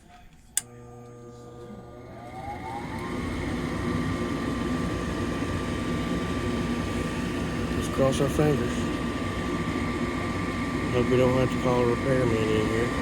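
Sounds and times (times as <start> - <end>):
furnace motor whine and hum: 0.0 - 13.0.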